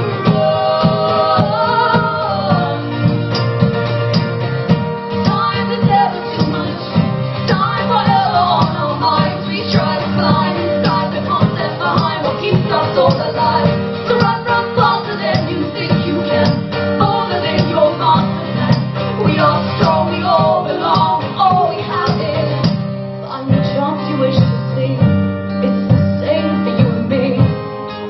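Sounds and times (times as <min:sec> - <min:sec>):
strummed acoustic guitar: 0:00.0 - 0:28.0.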